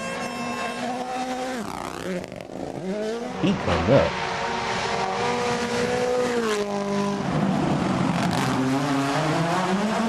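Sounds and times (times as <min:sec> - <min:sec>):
rally car engine at high revs: 0:00.4 - 0:10.0.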